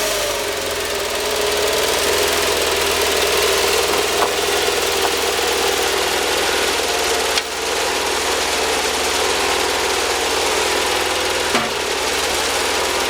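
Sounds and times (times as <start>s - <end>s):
band sawmill running: 0.0s - 13.0s.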